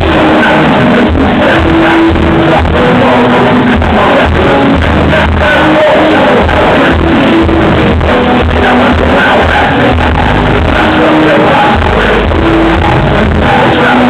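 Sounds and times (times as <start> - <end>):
bass-heavy hip-hop beat: 0.0 - 14.0
people rapping: 0.0 - 14.0.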